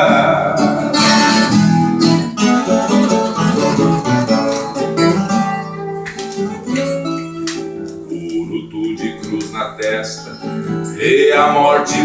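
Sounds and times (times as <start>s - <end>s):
acoustic guitar accompaniment: 0.0s - 12.0s
plucked string melody: 0.0s - 12.0s.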